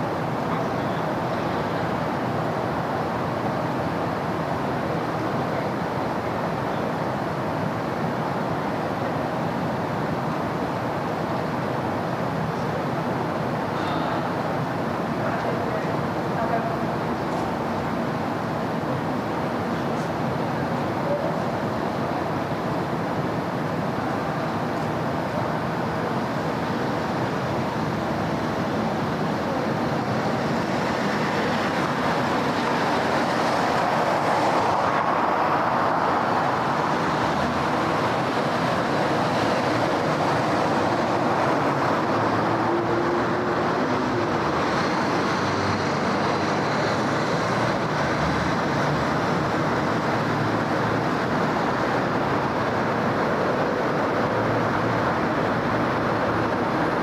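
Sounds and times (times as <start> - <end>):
road traffic hiss: 0.0 - 57.0.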